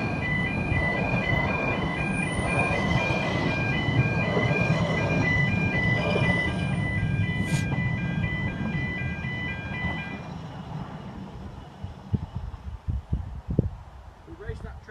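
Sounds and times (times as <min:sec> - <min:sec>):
two-tone crossing alarm: 0:00.0 - 0:13.0
train rumbling: 0:00.0 - 0:14.8.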